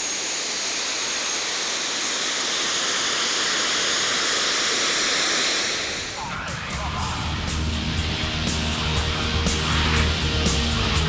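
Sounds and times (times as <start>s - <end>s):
high whine: 0.0s - 11.0s
jet engine hissing rush: 0.0s - 11.0s.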